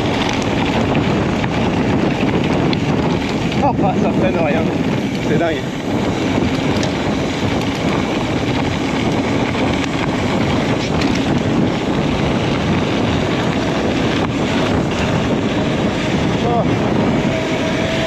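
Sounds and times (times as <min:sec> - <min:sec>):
bike clicks and rattles: 0:00.0 - 0:17.6
wind rush on microphone: 0:00.0 - 0:18.0.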